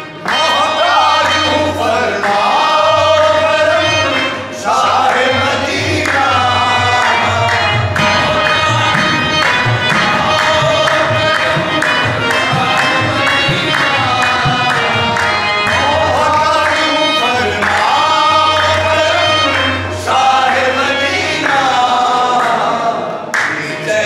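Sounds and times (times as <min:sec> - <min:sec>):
harmoniums: 0:00.0 - 0:24.0
men singing together: 0:00.0 - 0:24.0
tabla beat: 0:00.1 - 0:22.7.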